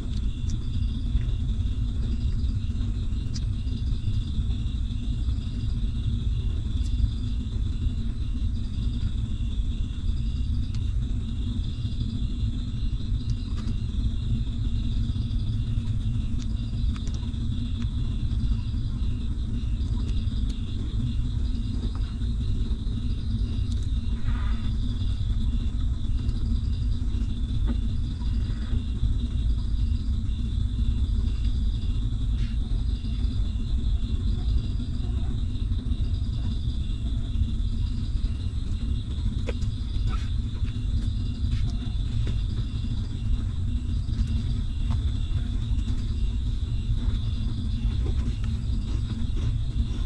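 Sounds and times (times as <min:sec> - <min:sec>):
insect chirring: 0:00.0 - 0:50.0
steady low rumble: 0:00.0 - 0:50.0.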